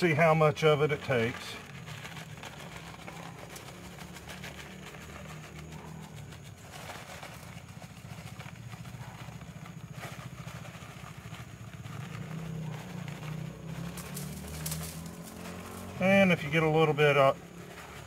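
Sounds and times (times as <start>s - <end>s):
crumbs pouring from cardboard box: 0.0s - 18.0s.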